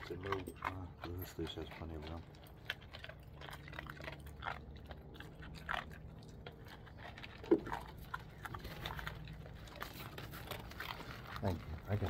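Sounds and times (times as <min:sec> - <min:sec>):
puppy crunching dry kibble: 0:00.0 - 0:12.0.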